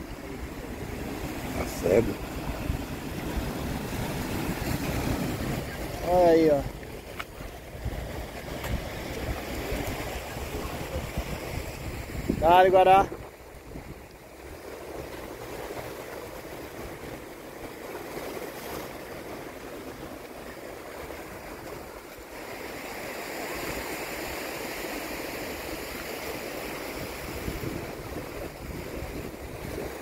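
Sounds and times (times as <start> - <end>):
surf washing over rocks: 0.0 - 30.0.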